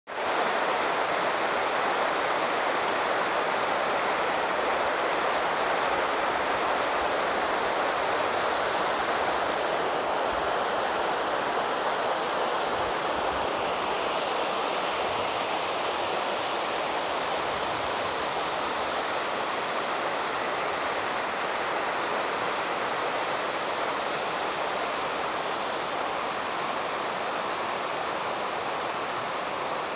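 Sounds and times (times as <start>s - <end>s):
water rushing over stones: 0.1s - 29.9s.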